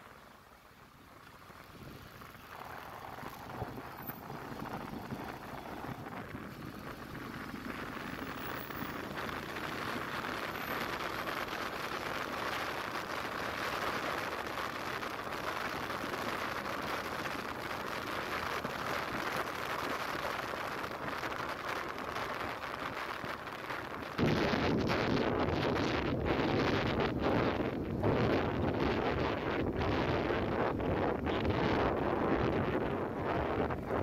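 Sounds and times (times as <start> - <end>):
vehicle road and wind noise: 0.0 - 34.0.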